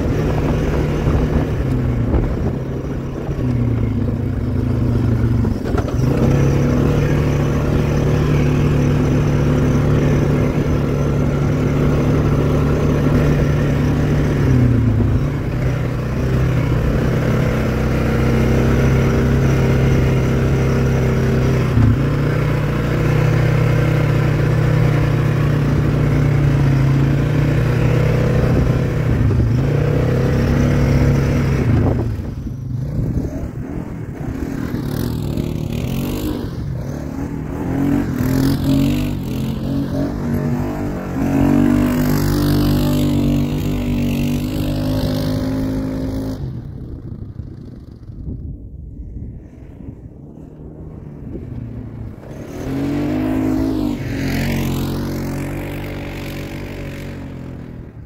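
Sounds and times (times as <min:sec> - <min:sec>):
atv engine running: 0:00.0 - 0:48.6, 0:49.3 - 0:58.0.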